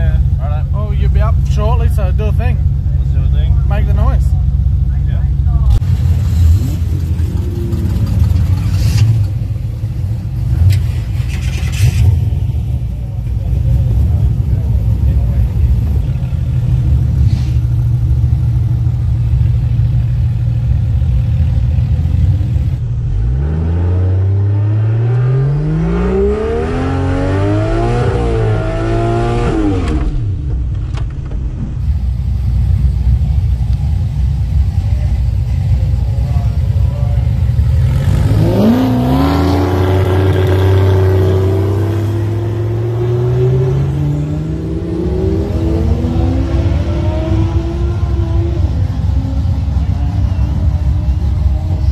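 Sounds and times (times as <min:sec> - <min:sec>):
turbocharged car engine revving: 0:00.0 - 0:51.9.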